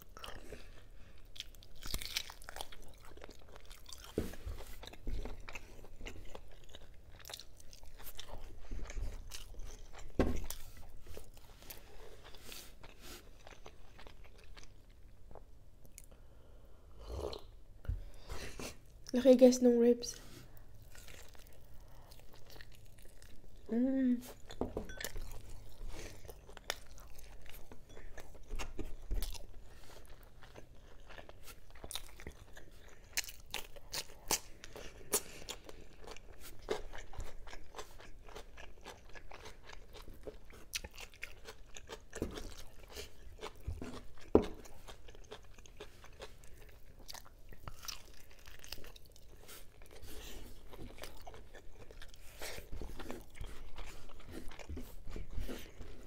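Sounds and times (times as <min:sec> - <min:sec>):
close chewing and crunching: 0:00.0 - 0:16.2, 0:20.4 - 0:56.0.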